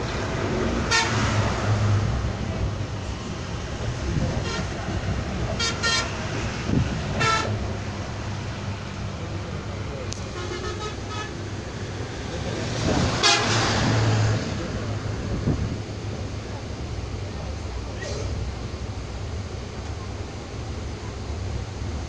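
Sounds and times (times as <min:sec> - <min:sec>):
low vehicle rumble: 0:00.0 - 0:22.0.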